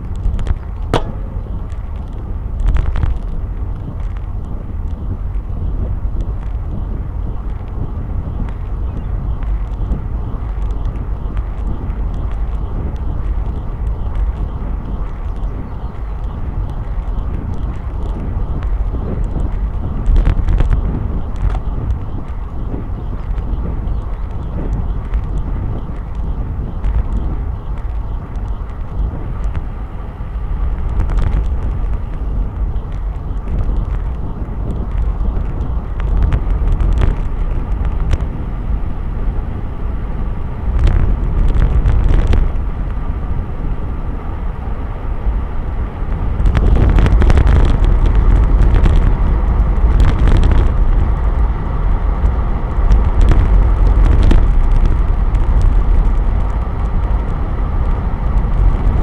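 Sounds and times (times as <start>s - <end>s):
bicycle rattling over bumps: 0.0s - 59.0s
tyre road noise: 0.0s - 59.0s
wind buffeting microphone: 0.0s - 59.0s.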